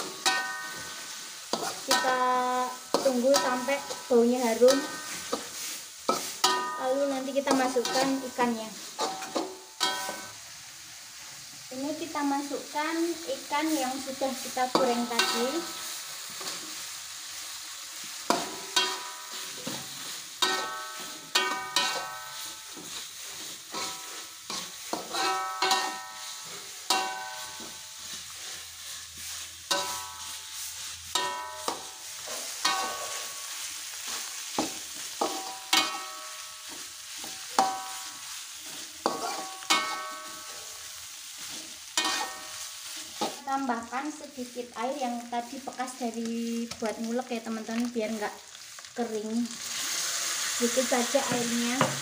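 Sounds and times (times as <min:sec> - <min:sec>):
metal spatula scraping a wok: 0:00.0 - 0:10.5, 0:12.0 - 0:46.8
frying hiss: 0:00.0 - 0:52.0.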